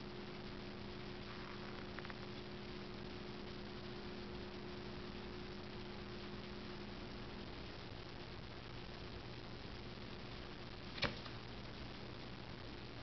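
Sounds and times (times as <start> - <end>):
electrical hum: 0.0 - 13.0
faint hiss: 0.0 - 13.0.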